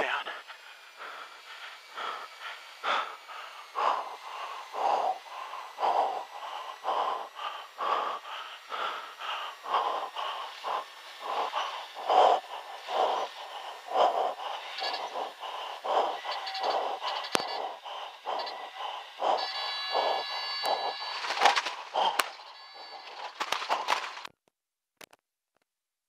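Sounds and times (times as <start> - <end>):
heavy rapid breathing: 0.0 - 24.3.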